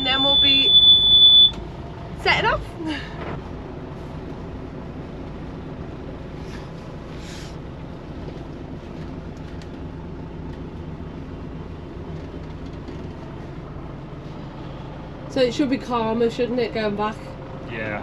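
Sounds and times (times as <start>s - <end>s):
boat engines idling: 0.0s - 18.0s.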